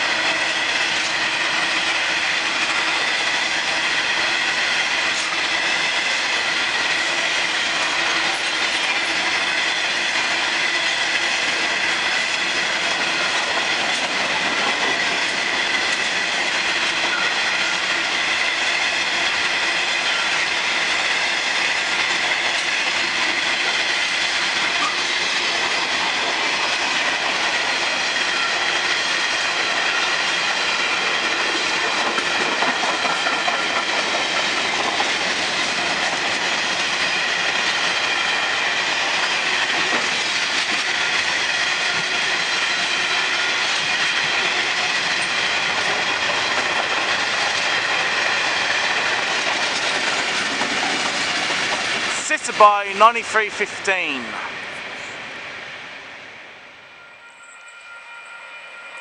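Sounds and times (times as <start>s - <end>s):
train wheels rumbling on rail: 0.0s - 58.3s.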